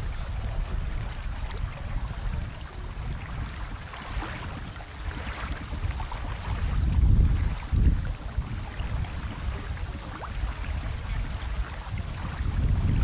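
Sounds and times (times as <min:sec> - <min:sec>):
choppy lake water hiss: 0:00.0 - 0:13.0
wind buffeting microphone: 0:00.0 - 0:13.0.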